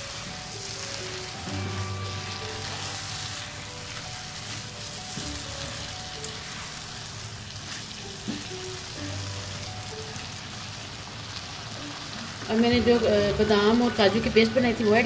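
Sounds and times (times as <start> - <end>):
spatula stirring in a pan: 0.0 - 13.1
background music: 0.0 - 15.0
food sizzling in a pan: 0.0 - 15.0.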